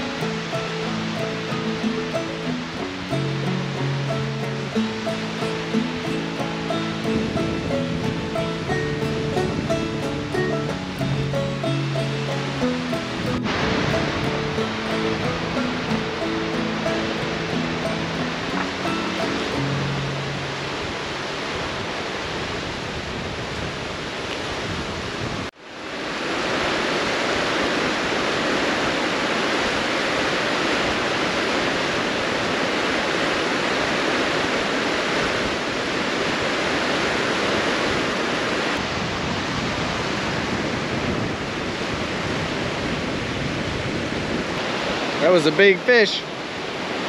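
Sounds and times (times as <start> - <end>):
waves rushing on shore: 0.0 - 47.0
wind: 0.0 - 47.0.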